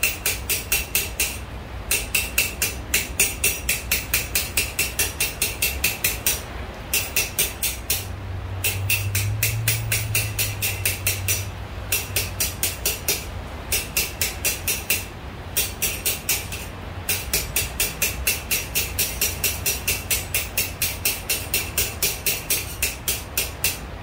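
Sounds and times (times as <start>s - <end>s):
hammer striking steel on anvil: 0.0s - 23.9s.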